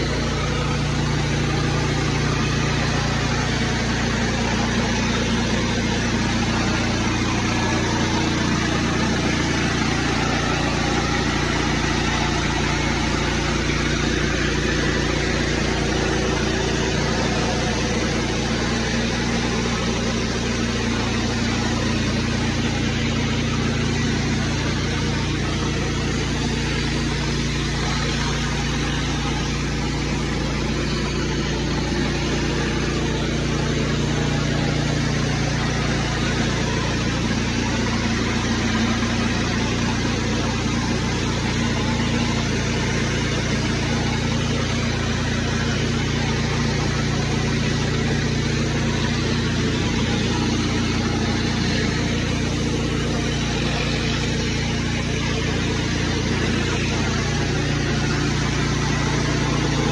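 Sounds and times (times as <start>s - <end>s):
pressure washer engine running: 0.0s - 59.9s
water spraying on concrete: 0.0s - 59.9s.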